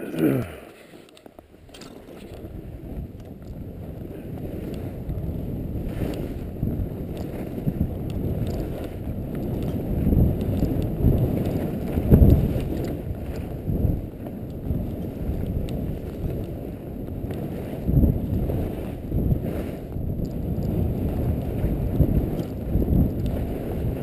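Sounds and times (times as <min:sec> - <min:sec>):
skis running over snow: 0:00.7 - 0:24.0
wind rumble on microphone: 0:01.4 - 0:24.0.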